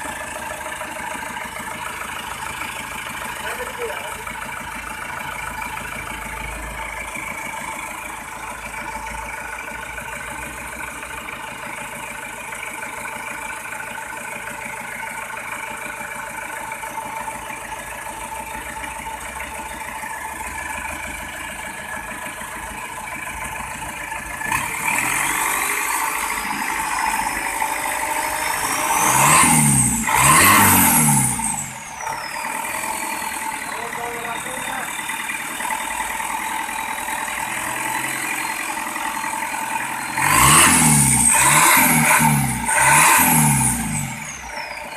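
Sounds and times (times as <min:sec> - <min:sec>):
diesel engine idling and revving: 0:00.0 - 0:44.9.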